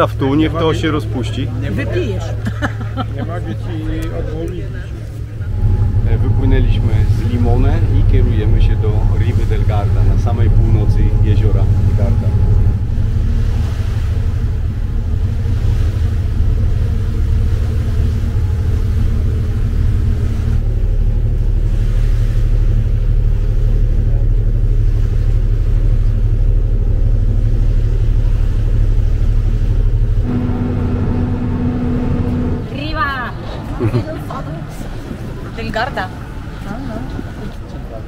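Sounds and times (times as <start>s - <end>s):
ferry engine droning: 0.0s - 38.0s.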